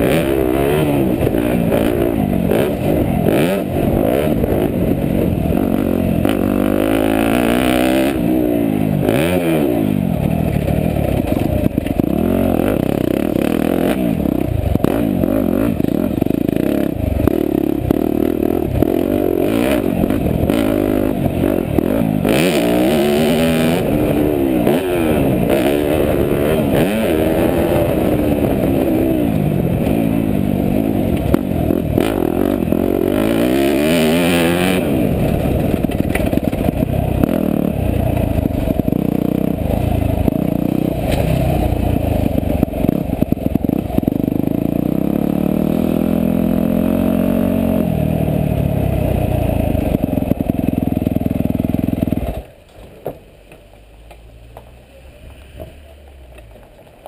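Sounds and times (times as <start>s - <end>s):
motocross engine revving: 0.0s - 52.5s.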